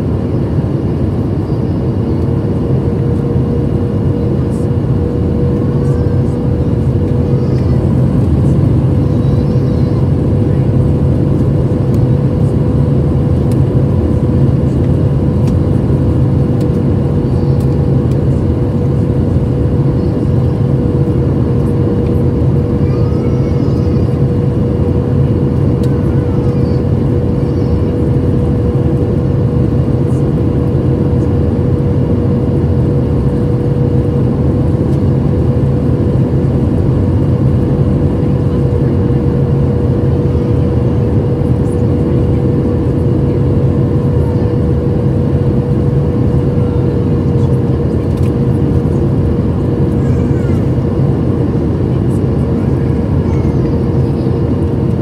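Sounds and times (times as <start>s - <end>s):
airliner cabin roar: 0.0s - 55.0s.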